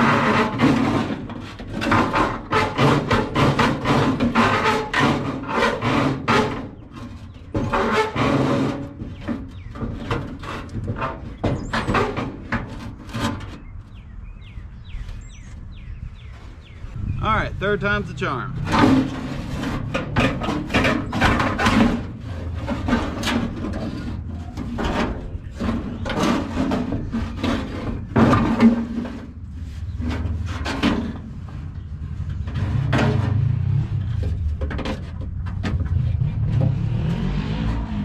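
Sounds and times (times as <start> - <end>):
sheet metal clunks and scrapes: 0.0 - 14.0, 18.5 - 38.0.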